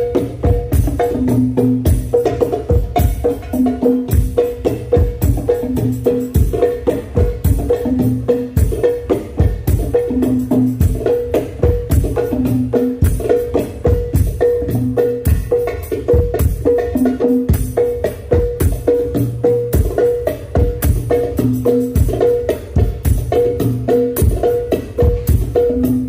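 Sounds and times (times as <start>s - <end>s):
hand drums and frame drums: 0.0s - 26.0s.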